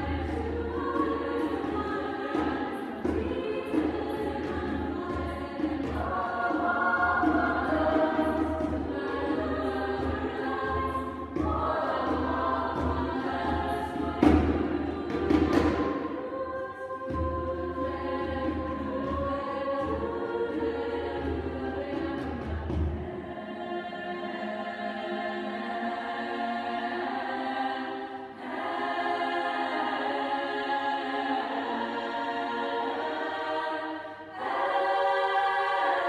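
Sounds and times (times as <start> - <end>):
girls' choir singing: 0.0 - 36.0.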